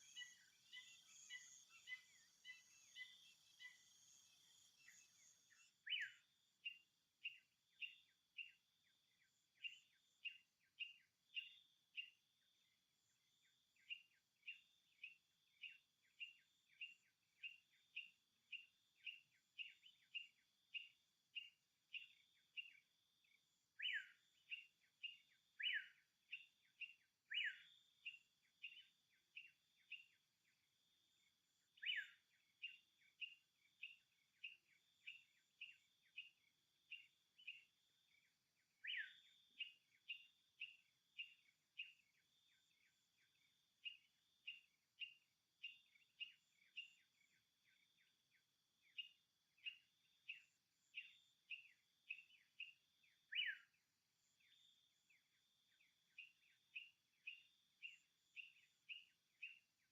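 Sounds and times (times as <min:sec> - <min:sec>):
faint high insect drone: 0:00.0 - 0:59.9.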